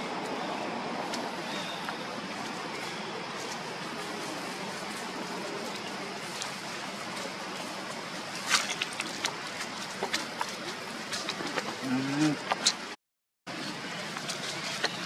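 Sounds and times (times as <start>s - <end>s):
steady outdoor hiss: 0.0s - 15.0s
monkeys tussling on dry leaves: 1.0s - 12.5s, 13.5s - 15.0s.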